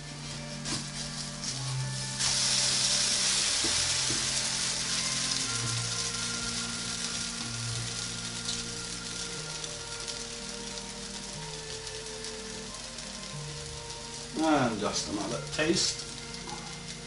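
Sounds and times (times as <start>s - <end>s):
pancake sizzling in a frying pan: 0.0s - 17.0s.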